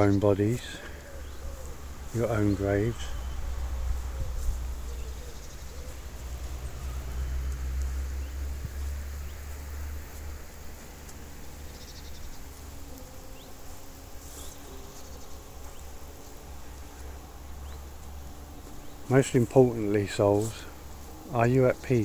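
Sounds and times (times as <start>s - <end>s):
insects buzzing and chirping: 0.0s - 22.0s.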